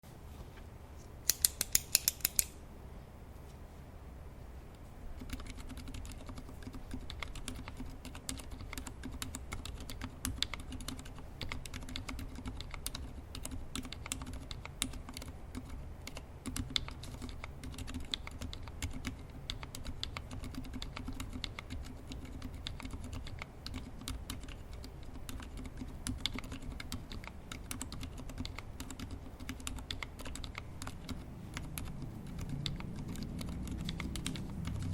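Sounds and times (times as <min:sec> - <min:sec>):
mechanical keyboard typing: 0:05.2 - 0:34.9.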